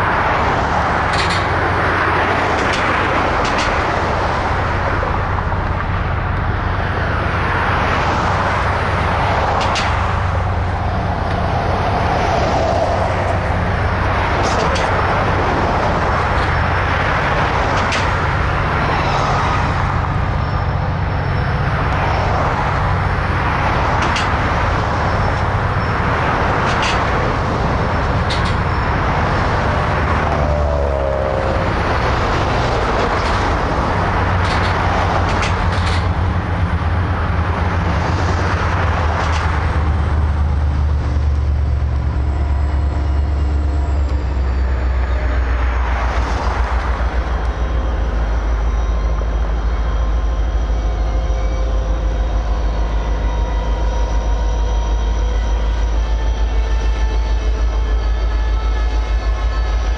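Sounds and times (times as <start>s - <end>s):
freight train rumbling: 0.0s - 59.9s
road vehicles passing: 0.0s - 59.9s.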